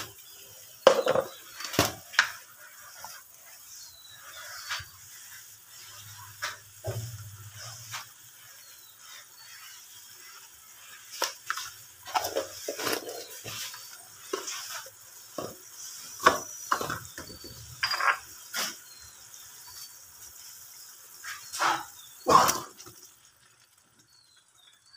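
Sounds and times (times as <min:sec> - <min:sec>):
water boiling in frying pan: 0:00.0 - 0:24.9.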